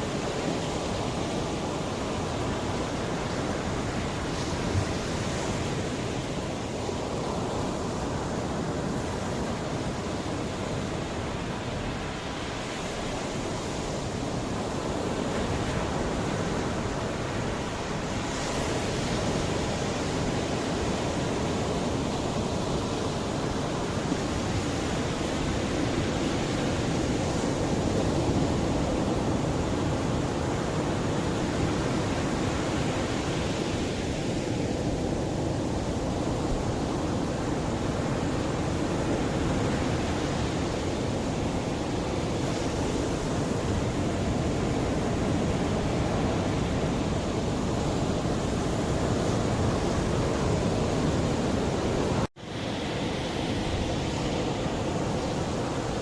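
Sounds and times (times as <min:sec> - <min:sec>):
sea waves washing on beach: 0:00.0 - 0:56.0.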